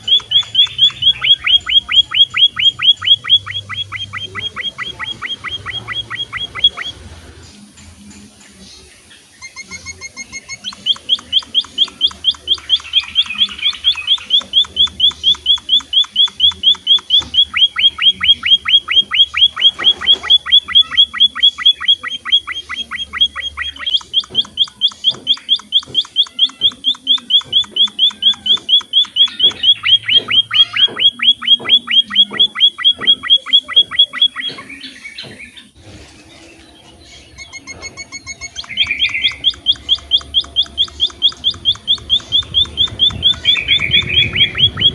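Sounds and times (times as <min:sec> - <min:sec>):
bird rapid high chirps: 0:00.0 - 0:07.6, 0:08.5 - 0:35.8, 0:36.4 - 0:44.9.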